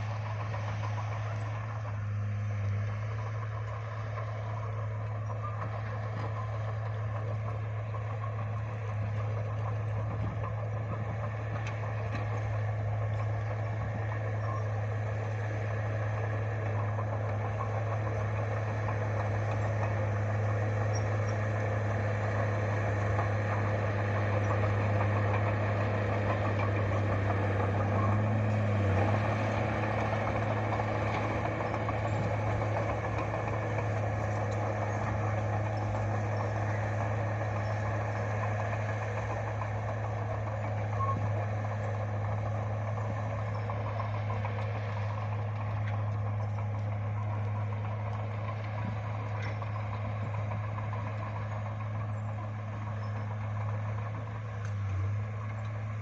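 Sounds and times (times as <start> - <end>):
bulldozer diesel engine humming: 0.0 - 56.0.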